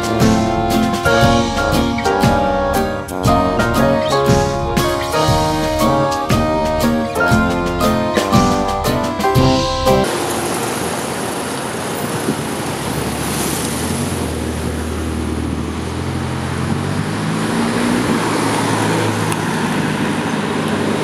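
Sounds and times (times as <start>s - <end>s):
car engine pulling away: 0.0s - 21.0s.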